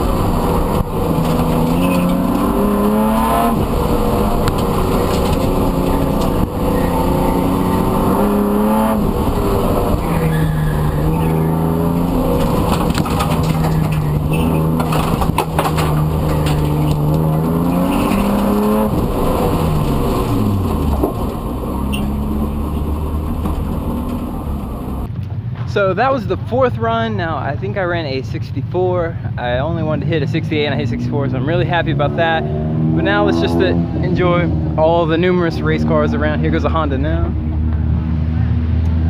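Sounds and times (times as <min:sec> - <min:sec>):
car engine revving: 0:00.0 - 0:25.1, 0:29.8 - 0:39.0.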